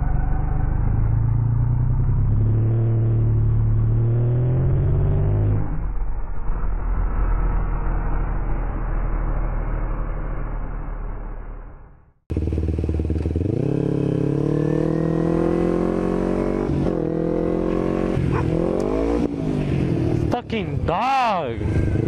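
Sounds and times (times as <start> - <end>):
motorcycle engine accelerating: 0.0 - 20.5.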